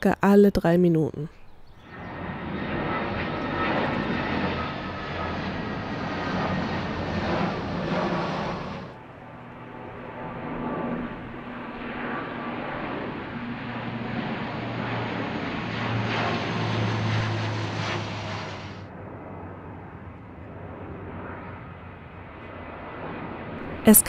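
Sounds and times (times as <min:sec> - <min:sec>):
jet airliner passing over: 0:01.5 - 0:24.0.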